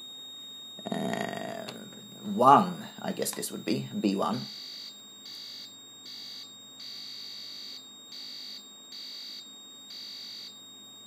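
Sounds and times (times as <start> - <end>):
high beeper tone switching on and off: 0.7 - 10.6.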